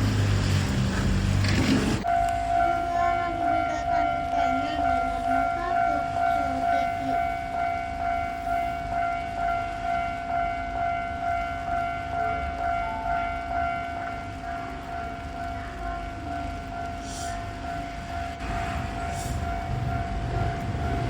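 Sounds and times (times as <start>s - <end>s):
train rumbling: 0.0s - 21.0s
level-crossing bell ringing: 2.0s - 21.0s.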